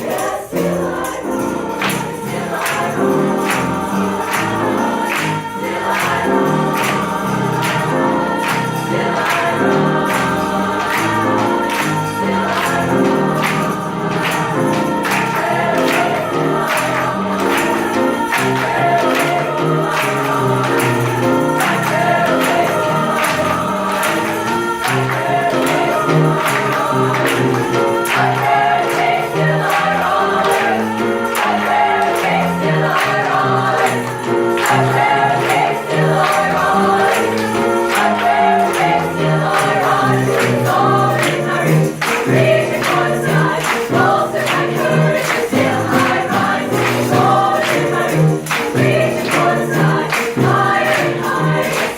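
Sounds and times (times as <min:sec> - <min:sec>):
choir singing in parts: 0:00.0 - 0:51.9.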